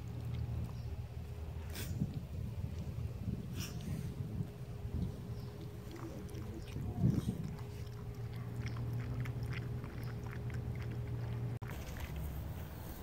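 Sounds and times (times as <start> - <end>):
dog chewing grass: 0.0 - 12.8
low steady hum: 0.0 - 13.0.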